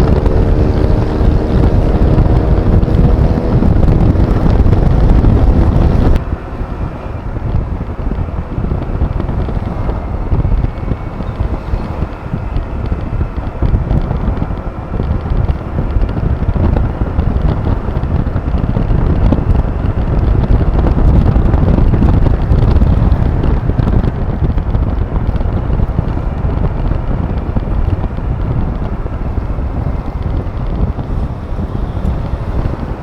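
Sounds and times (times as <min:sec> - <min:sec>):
road noise: 0:00.0 - 0:33.0
scooter engine running: 0:00.0 - 0:33.0
wind buffeting microphone: 0:00.0 - 0:33.0.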